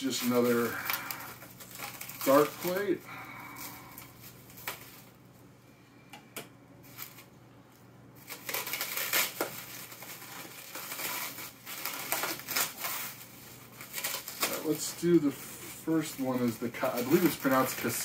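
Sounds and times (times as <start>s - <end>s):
bubble wrap crinkling and clicking: 0.0s - 5.2s, 6.8s - 18.0s.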